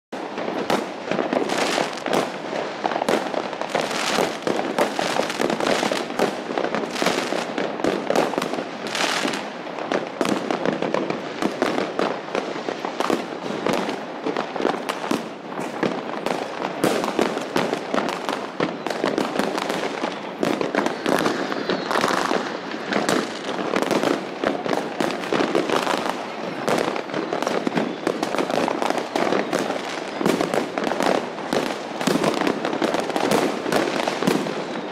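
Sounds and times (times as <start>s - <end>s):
fireworks bangs and crackling: 0.1s - 34.9s.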